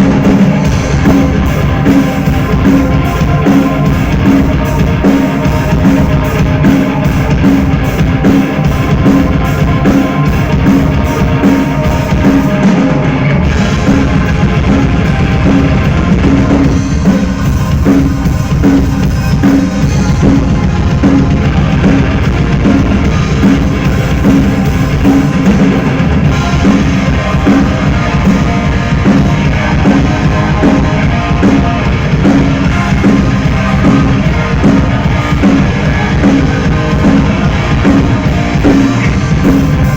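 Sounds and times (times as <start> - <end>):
bass: 0.0 - 39.9
drum kit steady beat: 0.0 - 39.9
electric guitar: 0.0 - 39.9.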